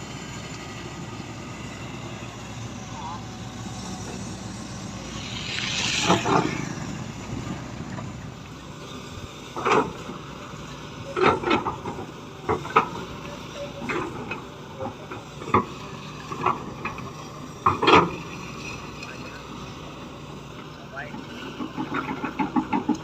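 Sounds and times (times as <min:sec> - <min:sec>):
excavator running: 0:00.0 - 0:23.0.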